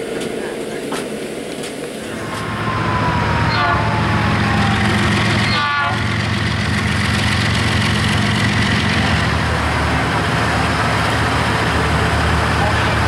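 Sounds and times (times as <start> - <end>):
diesel locomotives droning: 0.0 - 13.0.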